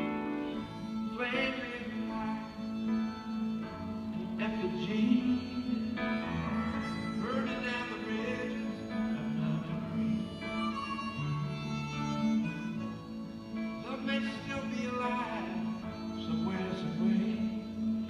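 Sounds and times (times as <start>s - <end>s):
acoustic guitar accompaniment: 0.0s - 18.0s
harmonica bending notes: 0.0s - 18.0s.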